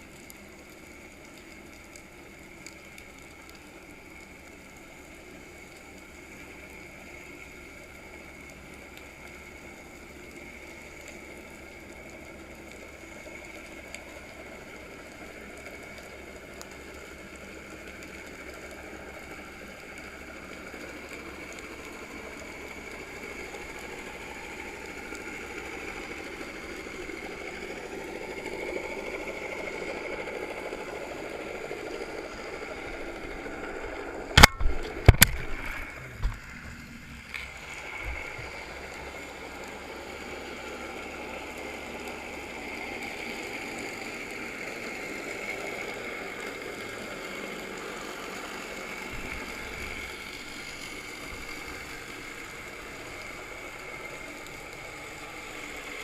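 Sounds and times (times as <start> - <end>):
boat motor hum underwater: 0.0 - 56.0
faint ticks: 0.0 - 56.0.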